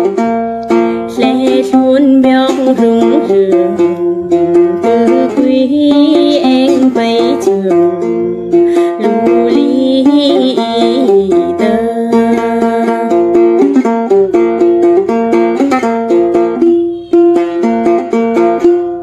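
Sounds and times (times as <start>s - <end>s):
plucked lute notes: 0.0s - 19.0s
person singing: 0.9s - 14.7s, 16.1s - 17.7s.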